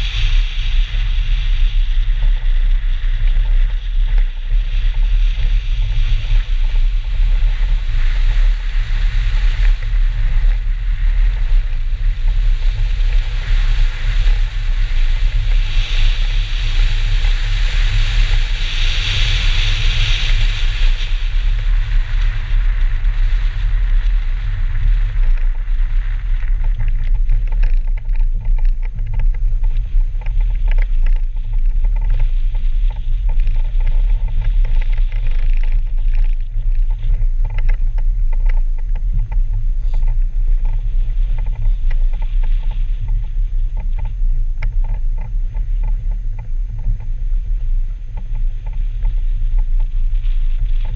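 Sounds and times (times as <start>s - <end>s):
car engine rumble: 0.0s - 50.9s
wind rumble on microphone: 0.0s - 50.9s.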